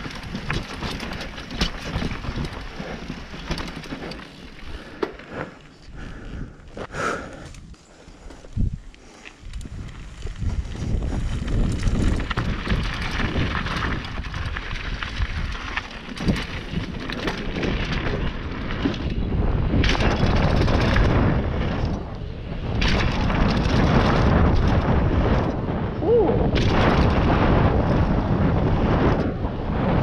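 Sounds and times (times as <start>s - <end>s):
tyres rolling on dirt: 0.0s - 25.7s
bike knocking and rattling: 0.0s - 30.0s
wind buffeting microphone: 0.0s - 30.0s.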